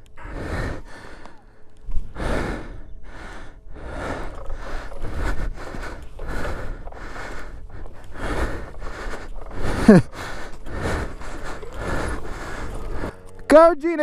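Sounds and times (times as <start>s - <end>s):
person breathing hard: 0.0s - 13.2s.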